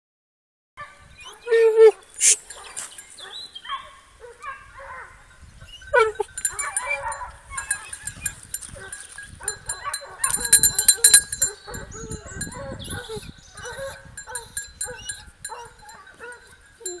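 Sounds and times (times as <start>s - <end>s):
hounds baying and yelping: 0.8s - 17.0s.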